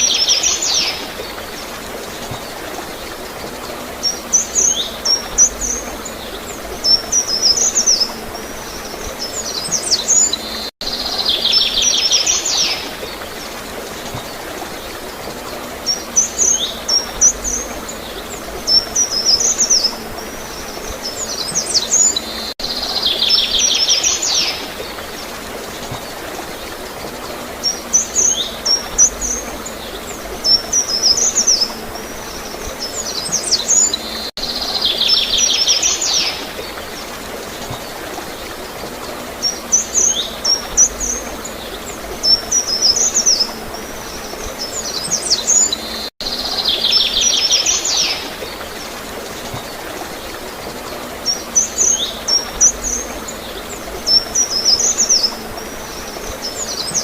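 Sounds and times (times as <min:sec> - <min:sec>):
flowing water: 0:00.0 - 0:57.0
songbirds chirping: 0:00.0 - 0:57.0.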